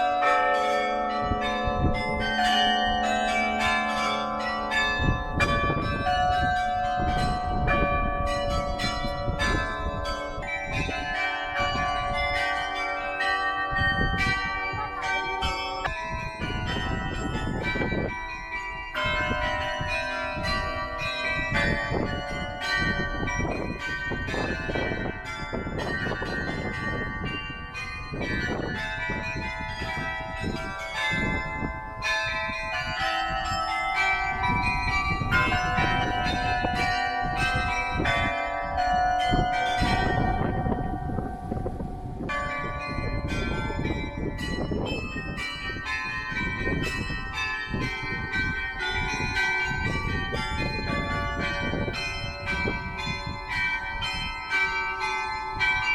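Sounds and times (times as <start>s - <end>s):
carillon bells playing a tune: 0.0s - 55.9s.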